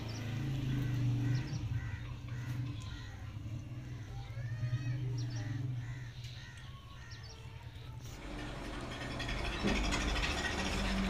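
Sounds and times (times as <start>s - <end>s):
birds chirping: 0.0s - 11.0s
vehicle engine rumble: 0.0s - 11.0s.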